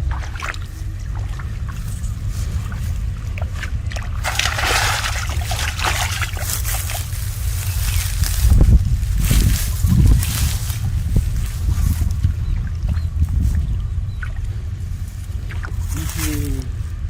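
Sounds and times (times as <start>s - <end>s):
shallow water splashing: 0.0s - 16.4s
steady low rumble: 0.0s - 17.0s.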